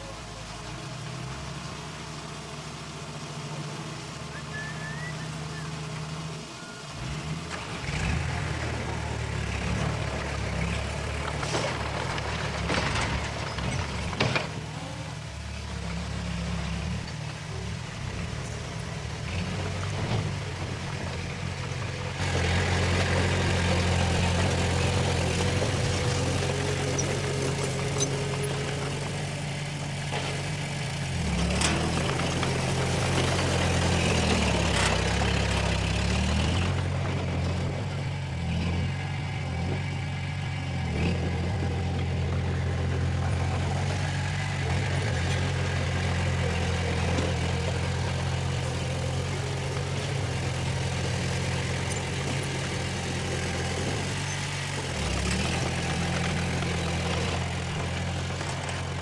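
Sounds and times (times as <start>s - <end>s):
diesel engine of heavy machinery: 0.0s - 59.0s.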